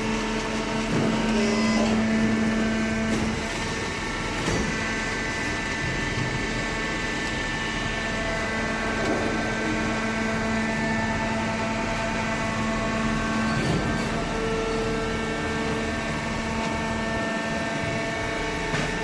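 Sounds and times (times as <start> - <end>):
baler machine humming: 0.0 - 19.0.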